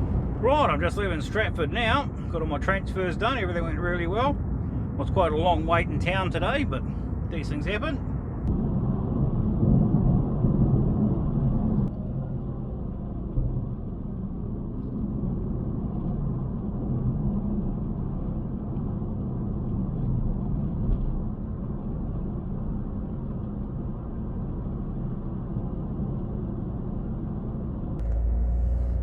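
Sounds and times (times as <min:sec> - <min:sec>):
car engine rumble: 0:00.0 - 0:29.0.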